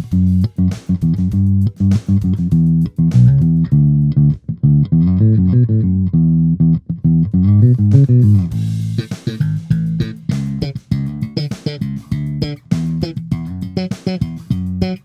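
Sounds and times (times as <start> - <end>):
electric bass plucked notes: 0.0 - 15.0.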